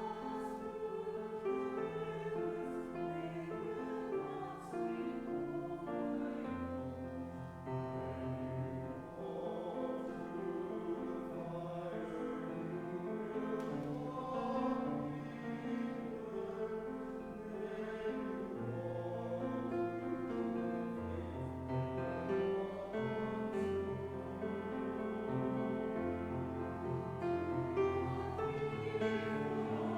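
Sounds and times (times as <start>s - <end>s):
slow church music: 0.0s - 29.9s.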